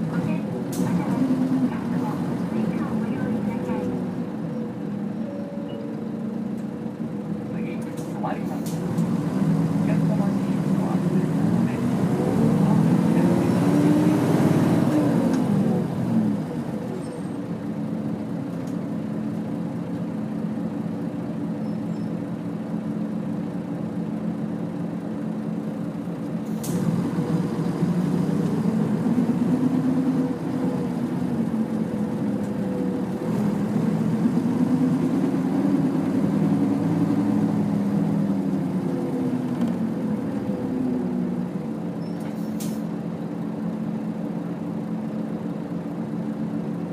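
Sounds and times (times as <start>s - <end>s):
bus diesel engine accelerating: 0.0s - 46.9s.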